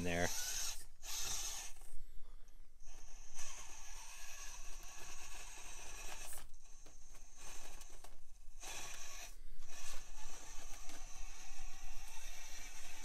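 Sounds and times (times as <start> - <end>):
high-pitched motor whine: 0.0 - 1.9, 2.8 - 13.0.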